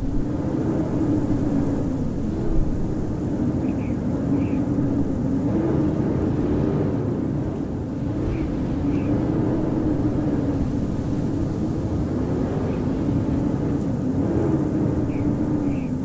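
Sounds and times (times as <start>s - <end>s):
howling storm wind: 0.0s - 16.0s.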